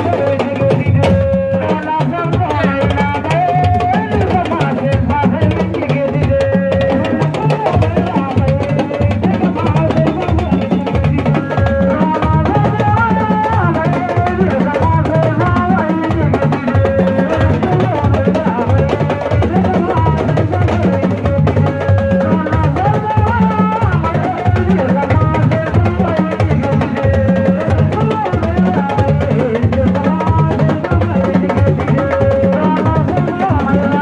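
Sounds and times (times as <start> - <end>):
drumming: 0.0 - 34.0.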